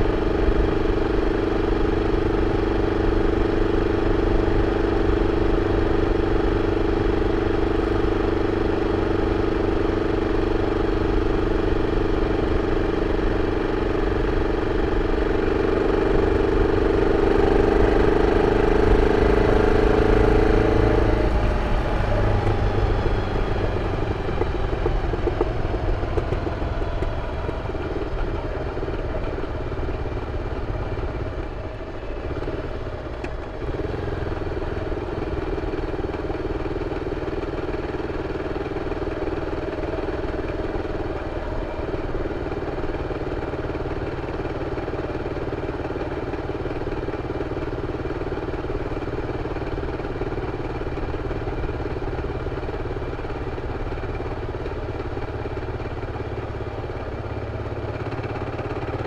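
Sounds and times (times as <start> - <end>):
single-cylinder motorcycle engine running: 0.0 - 59.0.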